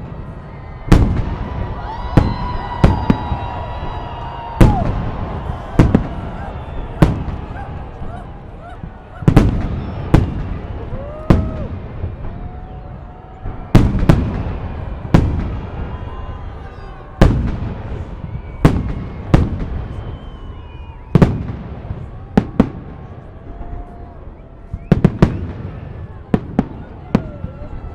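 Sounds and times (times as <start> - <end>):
firework booms echoing: 0.0 - 23.9.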